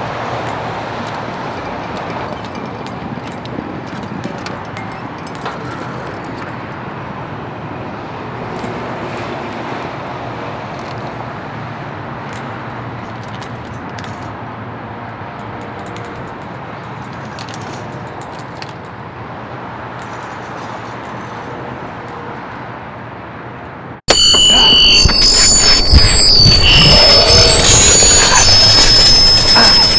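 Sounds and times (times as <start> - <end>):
distant road traffic hum: 0.0 - 24.7.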